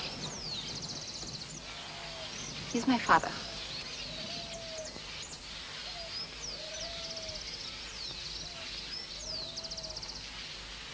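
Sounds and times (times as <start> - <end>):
birds whistling and trilling: 0.0 - 10.6.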